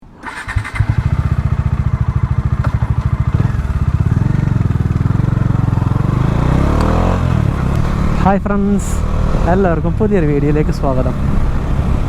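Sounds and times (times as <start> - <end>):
motorcycle engine idling: 0.4 - 11.5.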